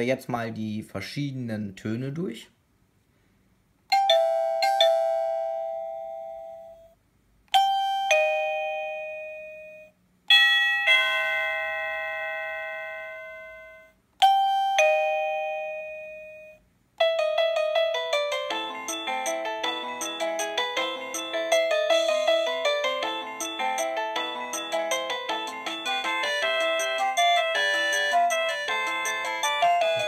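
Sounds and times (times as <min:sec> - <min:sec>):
doorbell ding-dong chimes: 0:03.9 - 0:30.0
doorbell tune of many notes: 0:03.9 - 0:30.0.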